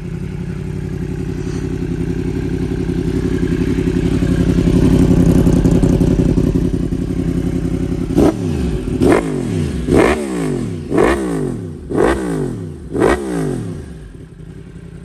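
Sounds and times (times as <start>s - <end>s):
motorcycle engine idling: 0.0s - 15.0s
motorcycle engine revving: 0.0s - 15.0s.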